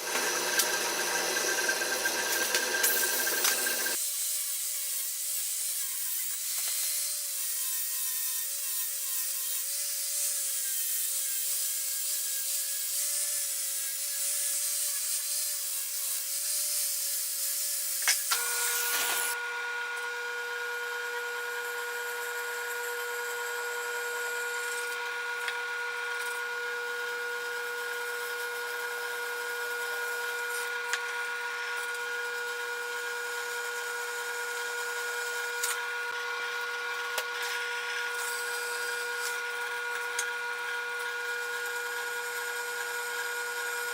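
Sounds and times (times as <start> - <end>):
power tool cutting steel: 0.0 - 43.9.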